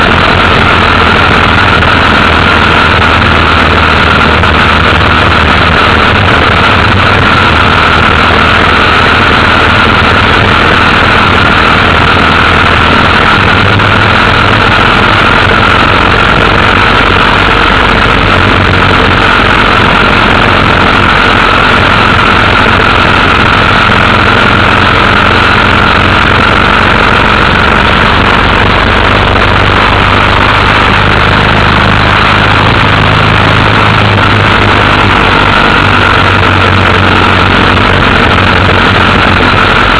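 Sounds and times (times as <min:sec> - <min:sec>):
loud rushing noise: 0:00.0 - 0:39.9
motorcycle engine running: 0:00.0 - 0:39.9.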